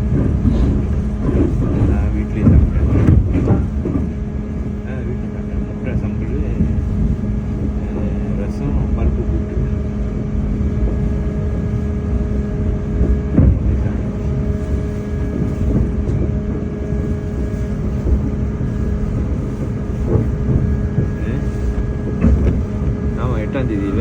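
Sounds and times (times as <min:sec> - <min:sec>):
vehicle rumble and drone: 0:00.0 - 0:24.0.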